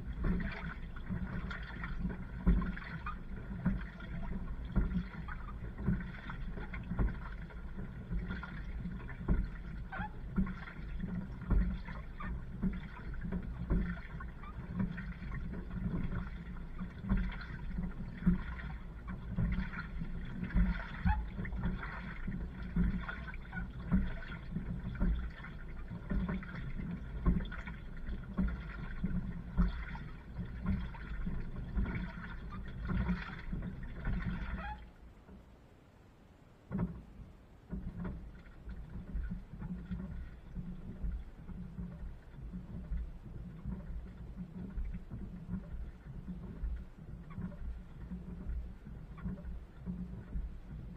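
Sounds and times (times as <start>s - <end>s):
washing machine water sloshing: 0.0s - 35.0s, 36.8s - 50.9s.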